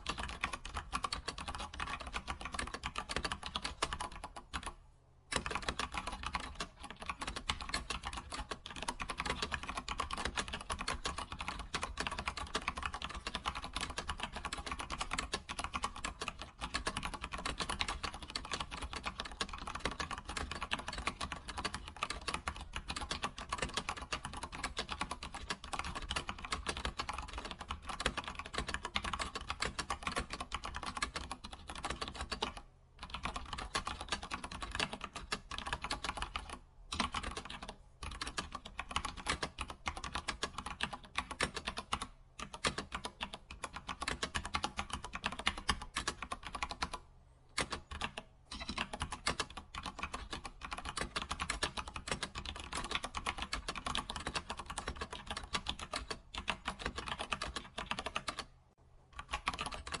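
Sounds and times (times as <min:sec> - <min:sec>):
keyboard typing: 0:00.0 - 0:58.5, 0:59.2 - 1:00.0.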